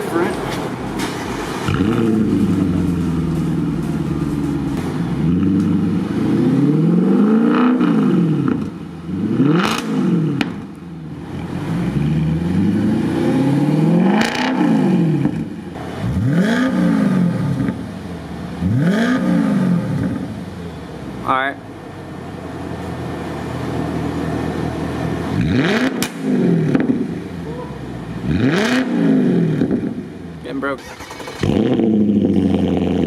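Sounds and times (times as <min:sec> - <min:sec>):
car engine revving: 0:00.0 - 0:21.3, 0:23.0 - 0:33.0.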